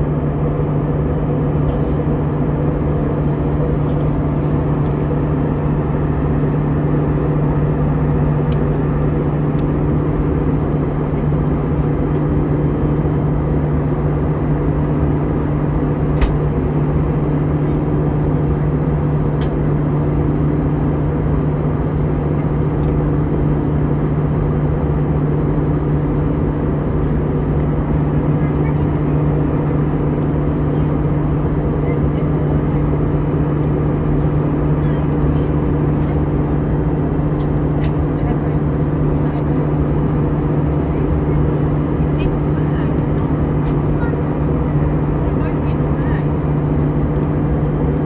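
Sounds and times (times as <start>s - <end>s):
airplane cabin engine drone: 0.0s - 48.0s.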